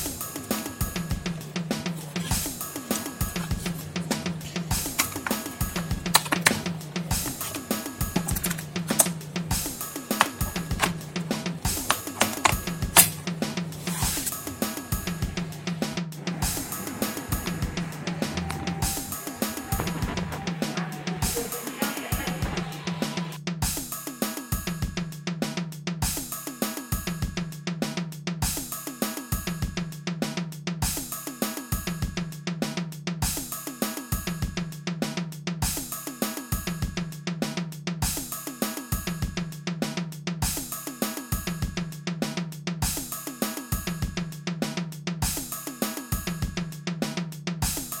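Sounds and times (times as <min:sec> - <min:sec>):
drum kit beat with cymbals: 0:00.0 - 0:48.0.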